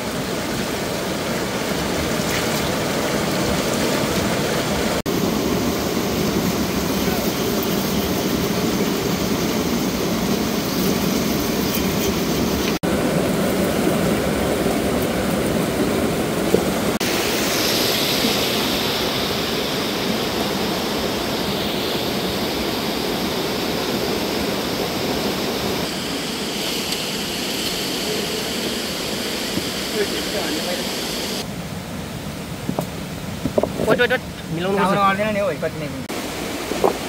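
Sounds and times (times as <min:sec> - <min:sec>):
river water rushing over boulders: 0:00.0 - 0:37.0.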